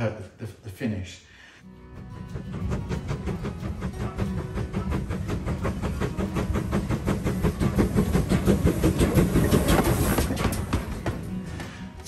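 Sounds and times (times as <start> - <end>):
heavy rumble of locomotive: 1.7 - 11.9
steam locomotive chuffing: 1.8 - 11.9.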